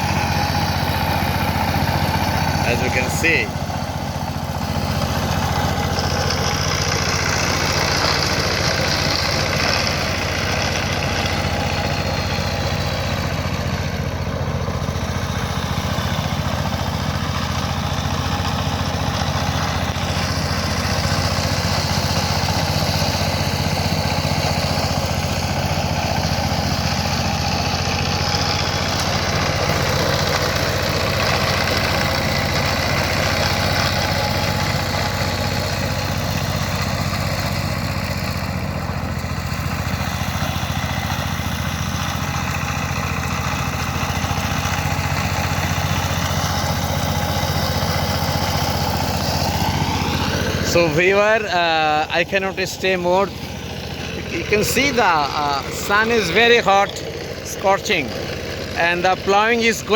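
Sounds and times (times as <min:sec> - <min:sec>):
tiller engine running: 0:00.0 - 0:59.9.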